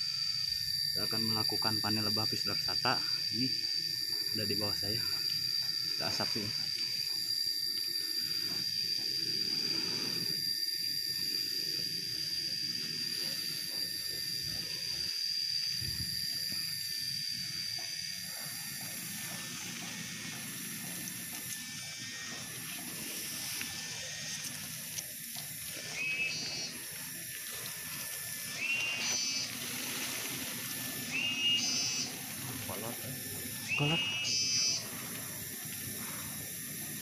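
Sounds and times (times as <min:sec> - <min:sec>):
high hiss: 0:00.0 - 0:37.0
high-pitched whine: 0:00.0 - 0:37.0
bees buzzing: 0:01.5 - 0:37.0.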